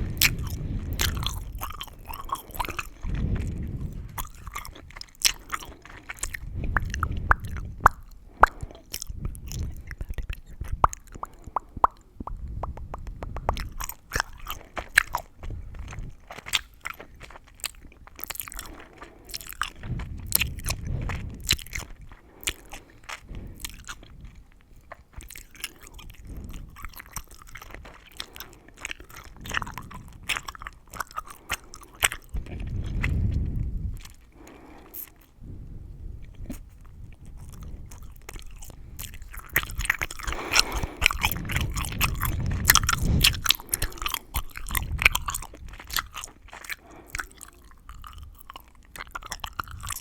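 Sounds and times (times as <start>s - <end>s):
gum chewing: 0.0s - 50.0s.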